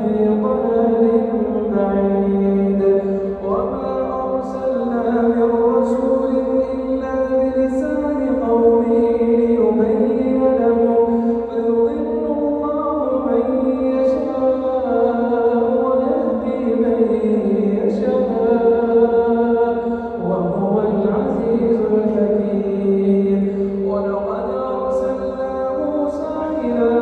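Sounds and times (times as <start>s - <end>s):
man chanting melodic recitation: 0.0s - 27.0s.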